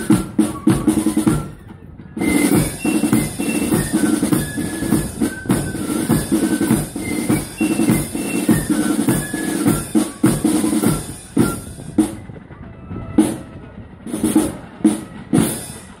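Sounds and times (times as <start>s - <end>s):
flute melody: 0.0s - 16.0s
side drums: 0.0s - 16.0s.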